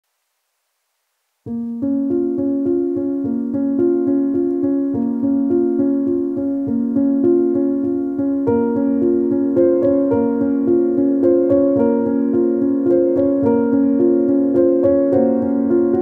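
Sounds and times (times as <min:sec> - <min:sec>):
gentle keyboard tune: 0:01.5 - 0:16.0.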